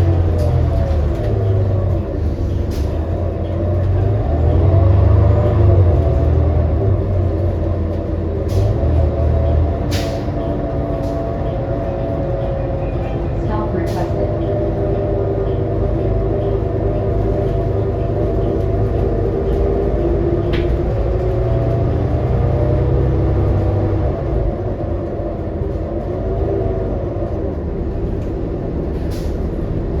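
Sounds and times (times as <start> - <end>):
bus engine low rumble: 0.0 - 30.0.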